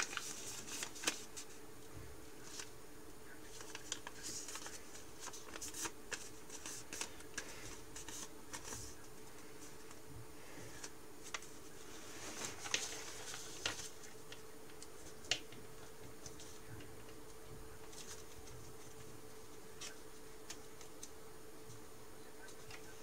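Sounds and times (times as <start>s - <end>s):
paper being folded and creased: 0.0s - 1.6s, 2.4s - 2.7s, 3.5s - 10.0s, 10.7s - 21.1s
faint steady hum: 0.0s - 23.0s.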